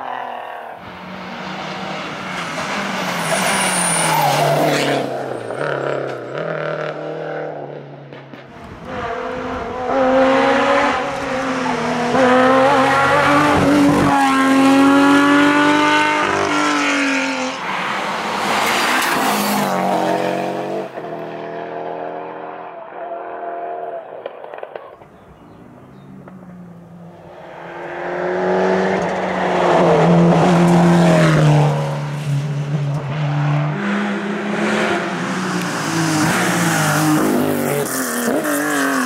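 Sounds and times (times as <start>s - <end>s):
rally car passing at full throttle: 0.0s - 39.0s.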